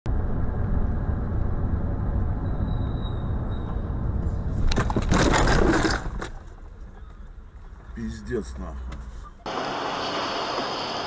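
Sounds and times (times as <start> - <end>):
car road and engine rumble: 0.1 - 11.0.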